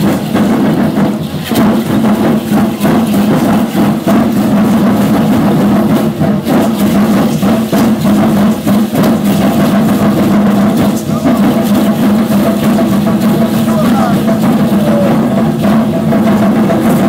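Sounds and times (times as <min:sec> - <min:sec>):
fast drumming: 0:00.0 - 0:17.0.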